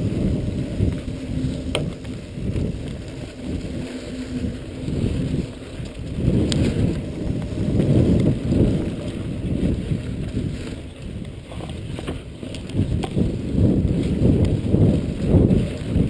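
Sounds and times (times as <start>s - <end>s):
bike clicks and rattles: 0.0s - 16.0s
bike tyres rumbling on dirt: 0.0s - 16.0s
wind buffeting microphone: 0.0s - 16.0s.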